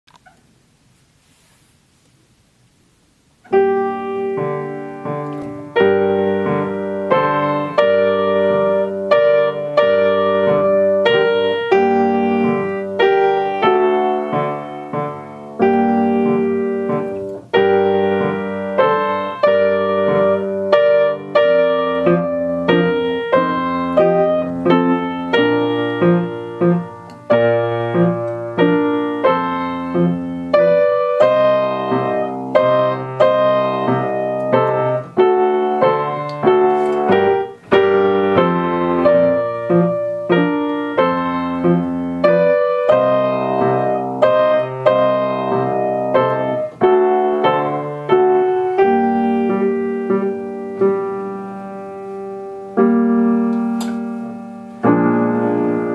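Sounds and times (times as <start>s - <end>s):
grand piano chords: 3.4s - 55.9s.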